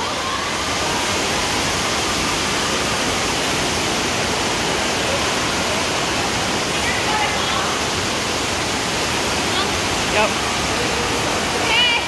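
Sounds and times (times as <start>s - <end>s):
water rushing down a slide: 0.0s - 12.0s.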